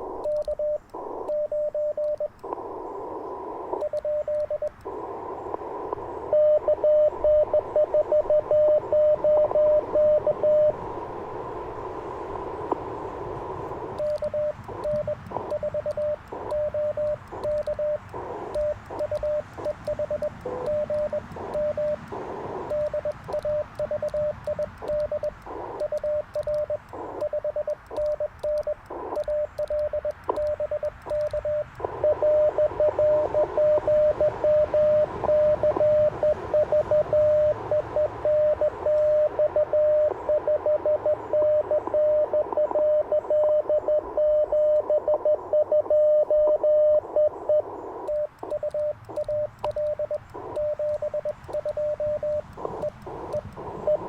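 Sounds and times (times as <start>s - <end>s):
morse code tone: 0.0s - 2.3s, 3.4s - 4.7s, 6.2s - 10.8s, 13.8s - 54.0s
faint radio hiss: 0.0s - 54.0s.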